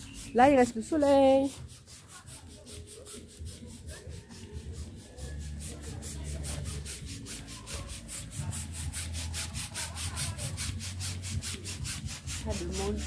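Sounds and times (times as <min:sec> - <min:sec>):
hand air pump hissing strokes: 0:00.0 - 0:13.0.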